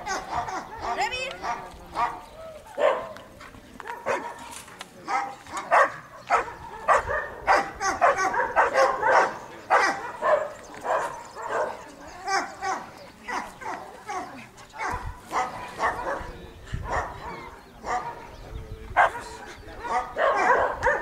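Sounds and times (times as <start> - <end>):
dog barking: 0.0 - 2.2, 2.8 - 3.2, 3.8 - 18.3, 19.0 - 21.0.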